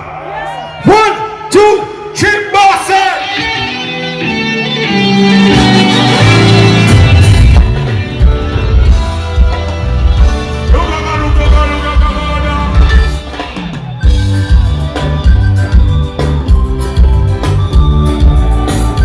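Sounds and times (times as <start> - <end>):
live band playing: 1.3 - 19.0
heavy bass line: 3.4 - 19.0.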